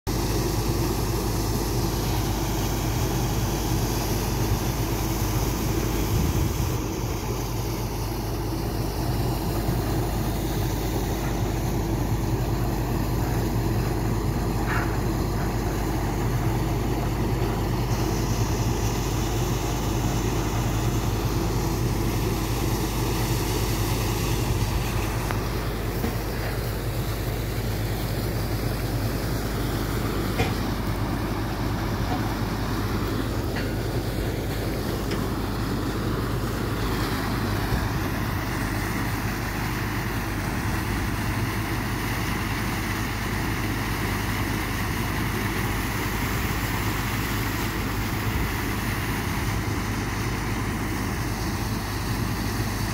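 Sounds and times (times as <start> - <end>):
muddy water gushing: 0.1 - 52.9
rig engine low drone: 0.1 - 52.9.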